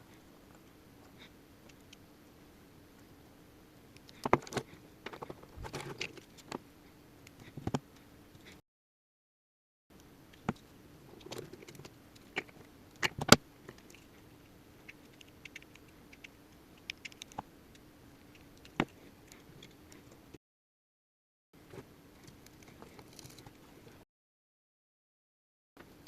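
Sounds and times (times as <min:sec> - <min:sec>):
faint steady hum: 0:00.0 - 0:08.6, 0:09.9 - 0:20.4, 0:21.6 - 0:24.0, 0:25.8 - 0:26.0.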